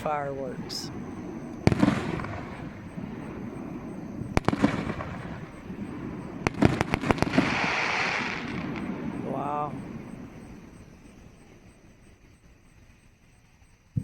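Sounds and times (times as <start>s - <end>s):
fireworks bangs and cracks: 0.0s - 12.1s.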